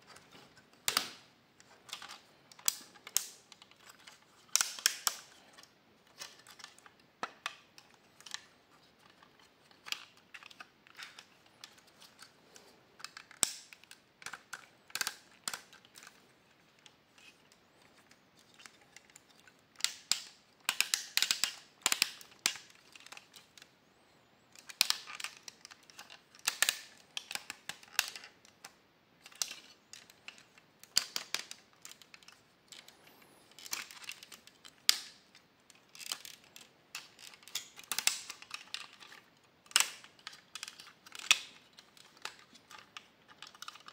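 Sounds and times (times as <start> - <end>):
plastic toy parts clicking: 0.1 - 23.7, 24.5 - 43.9.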